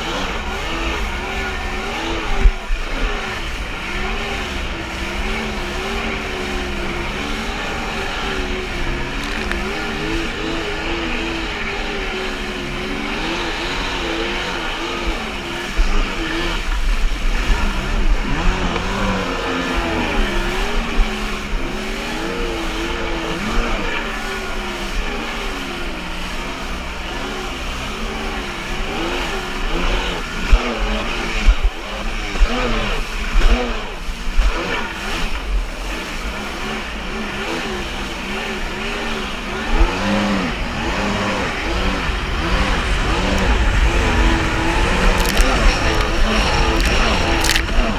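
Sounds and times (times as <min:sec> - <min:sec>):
jet ski engine running: 0:00.0 - 0:47.9.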